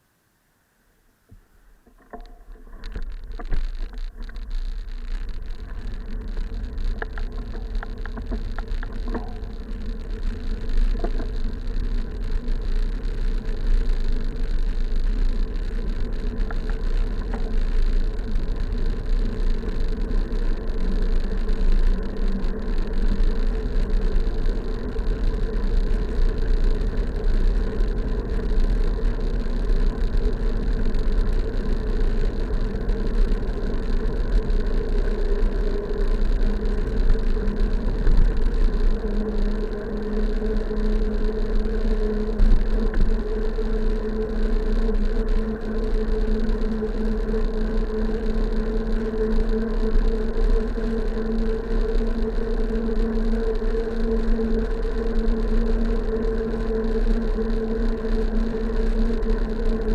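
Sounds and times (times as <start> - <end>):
bicycle road rumble: 0.0 - 59.9.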